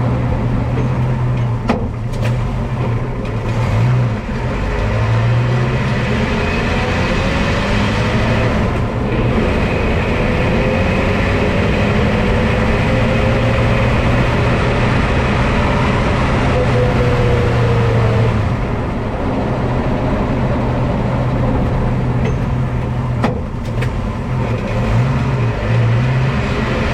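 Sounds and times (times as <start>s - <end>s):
car engine and road noise: 0.0s - 26.9s.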